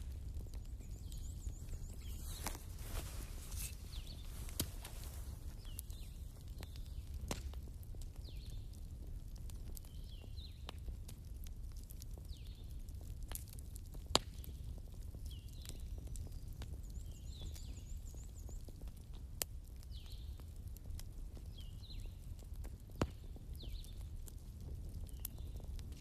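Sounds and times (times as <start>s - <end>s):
fire crackling: 0.0s - 26.0s
fire popping: 0.0s - 26.0s.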